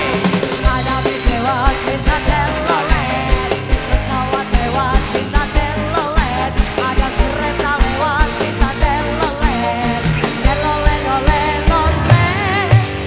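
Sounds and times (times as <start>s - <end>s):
electric guitar: 0.0s - 13.0s
keyboard: 0.0s - 13.0s
steady drum beat: 0.0s - 13.0s
woman singing with vibrato: 0.6s - 13.0s.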